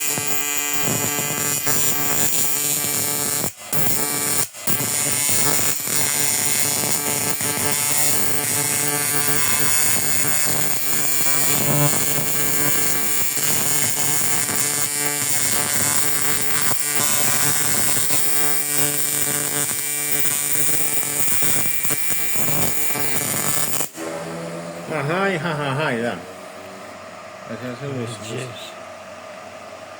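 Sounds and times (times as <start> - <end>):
welding arc buzzing: 0.0 - 28.6.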